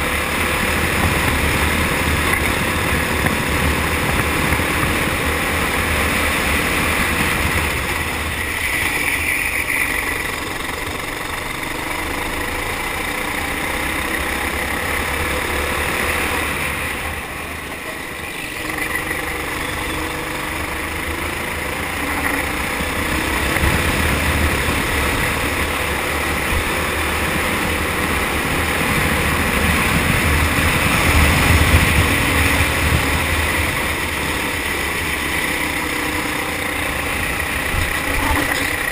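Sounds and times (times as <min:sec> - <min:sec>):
kart engine running: 0:00.0 - 0:38.9.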